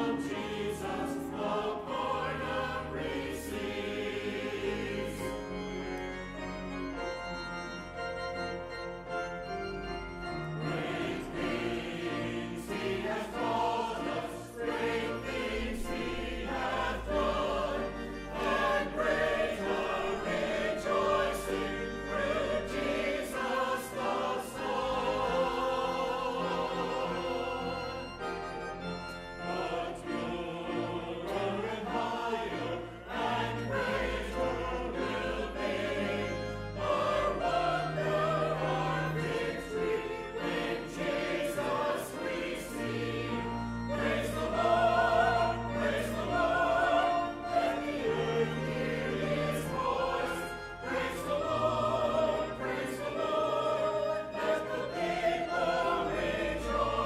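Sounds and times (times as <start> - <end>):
choir singing in parts: 0.0 - 6.0, 10.6 - 57.0
organ accompaniment: 0.0 - 57.0.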